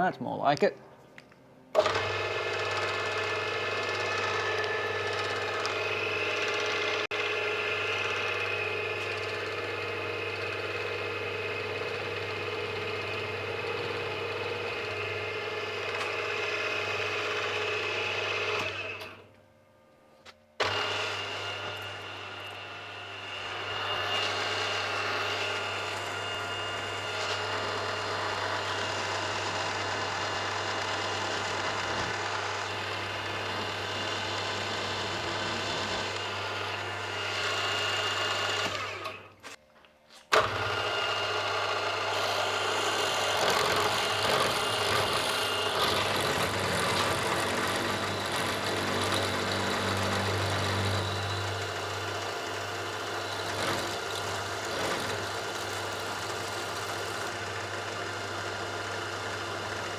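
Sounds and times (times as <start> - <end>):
electric drill drilling: 1.7 - 19.2, 20.6 - 39.5, 40.3 - 59.9.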